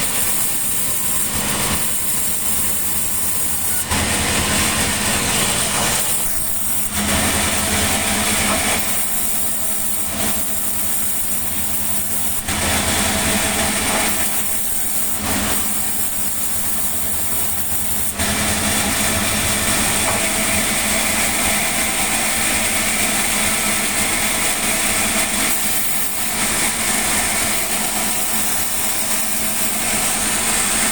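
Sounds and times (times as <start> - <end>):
high machine whine: 0.0 - 30.9
sawmill engine drone: 0.0 - 30.9.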